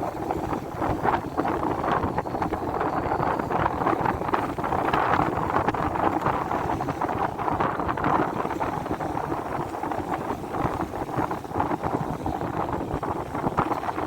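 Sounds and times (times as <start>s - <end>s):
sea wash: 0.0s - 14.0s
wind buffeting microphone: 0.0s - 14.0s.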